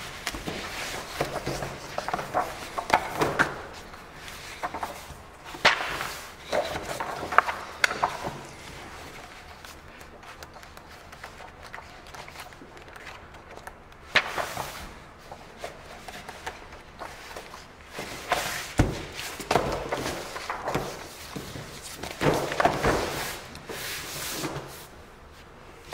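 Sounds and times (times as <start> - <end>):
book pages rustling: 0.0 - 25.9.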